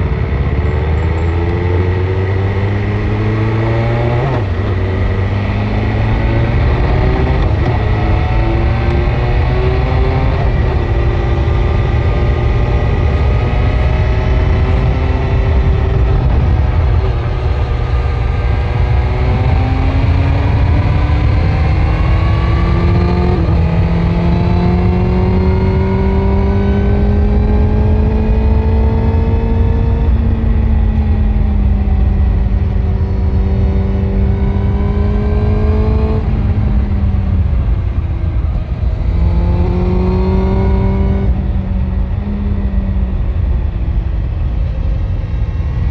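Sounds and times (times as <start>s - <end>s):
motorcycle engine revving: 0.0s - 45.9s
wind rumble on microphone: 0.0s - 45.9s.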